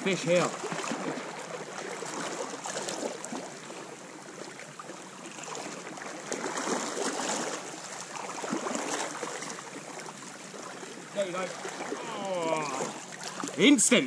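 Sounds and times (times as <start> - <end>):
sea water lapping around rocks: 0.0 - 14.0.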